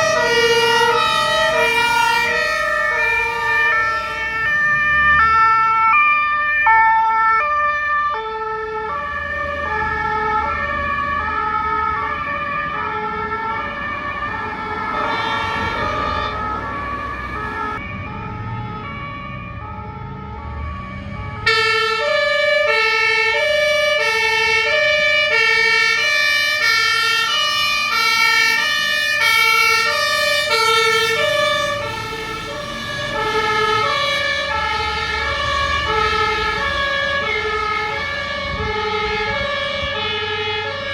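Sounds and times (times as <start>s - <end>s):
diesel engines running: 0.0s - 6.0s, 8.8s - 40.9s
two-tone fire engine horns: 0.0s - 7.2s, 8.0s - 40.9s.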